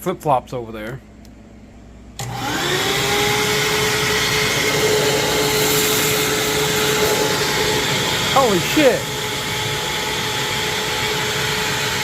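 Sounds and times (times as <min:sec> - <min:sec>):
vacuum cleaner motor whine: 0:02.2 - 0:12.0.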